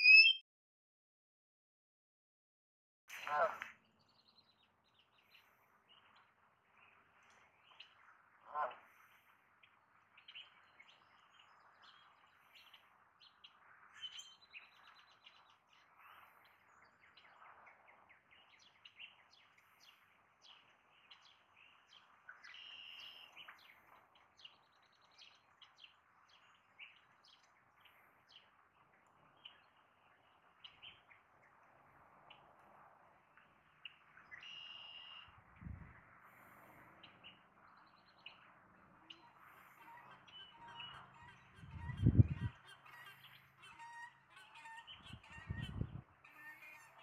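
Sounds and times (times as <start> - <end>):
small birds chirping: 3.1 - 47.0.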